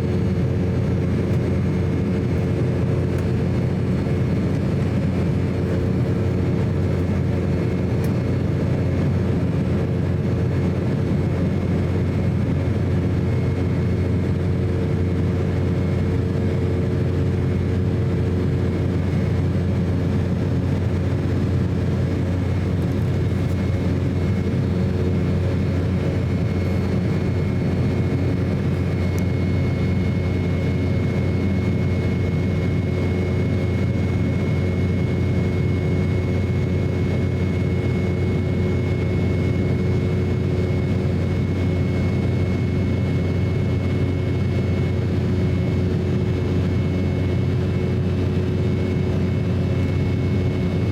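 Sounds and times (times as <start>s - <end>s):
jet engines droning: 0.0s - 50.9s.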